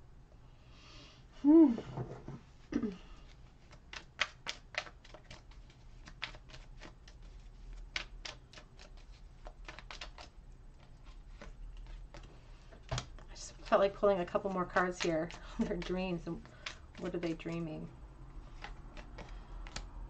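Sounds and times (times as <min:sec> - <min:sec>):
cards being shuffled: 0:03.2 - 0:17.8, 0:18.4 - 0:20.0.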